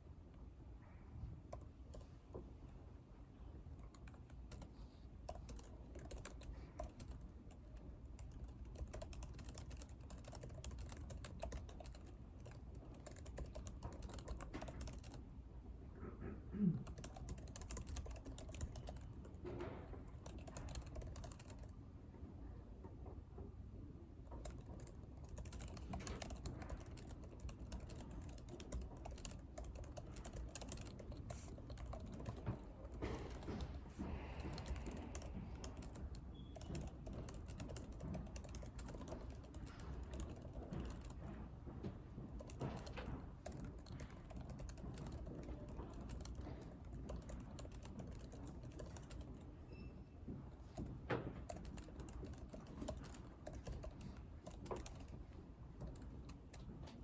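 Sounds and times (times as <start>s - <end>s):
low room hum: 0.0s - 57.0s
keyboard typing: 3.8s - 15.2s, 16.8s - 21.8s, 24.3s - 41.4s, 42.3s - 49.6s, 50.6s - 57.0s.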